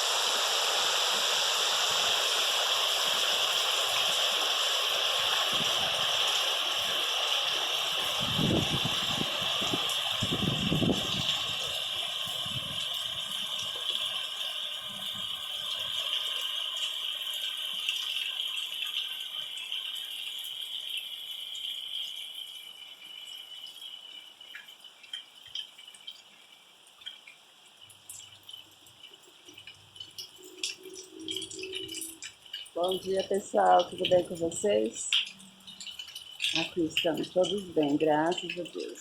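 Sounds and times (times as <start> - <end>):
rain falling: 0.0 - 39.0
water drips: 0.0 - 39.0.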